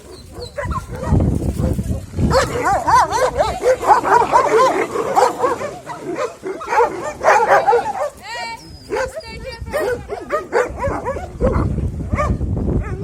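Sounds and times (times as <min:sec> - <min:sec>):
dogs barking and whining: 0:00.0 - 0:13.0.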